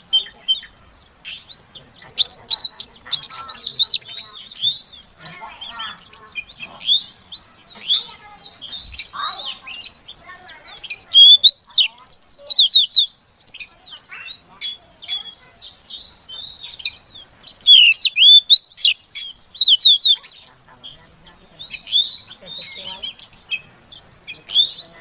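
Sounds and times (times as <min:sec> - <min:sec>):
bird chirping and whistling: 0:00.0 - 0:25.0.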